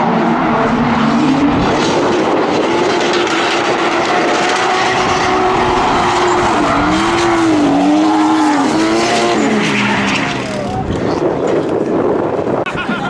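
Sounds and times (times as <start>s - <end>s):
drift car engines revving: 0.0s - 13.0s.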